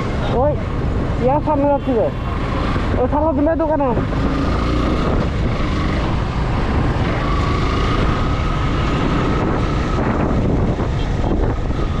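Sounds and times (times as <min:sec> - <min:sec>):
motorcycle engine: 0:00.0 - 0:12.0
road noise: 0:00.0 - 0:12.0
wind noise on microphone: 0:00.0 - 0:12.0.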